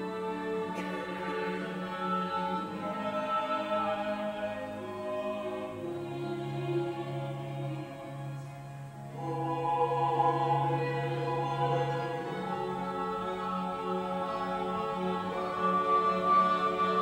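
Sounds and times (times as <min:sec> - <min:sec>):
choir-like voices singing: 0:00.0 - 0:17.0.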